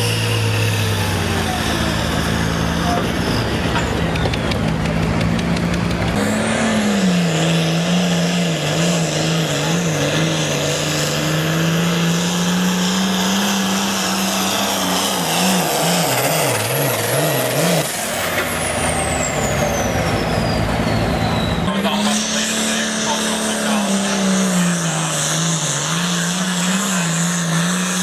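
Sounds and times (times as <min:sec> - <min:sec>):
tractor engine at full throttle: 0:00.0 - 0:28.0.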